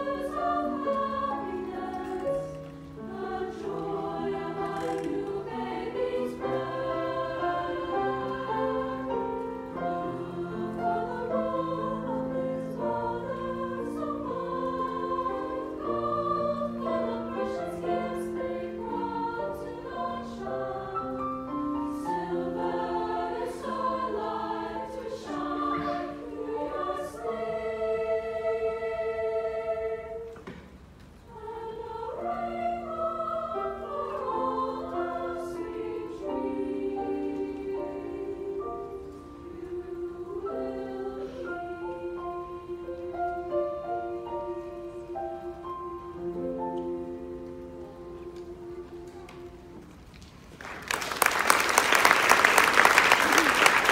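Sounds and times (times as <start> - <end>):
mixed choir singing in harmony: 0.0 - 50.0.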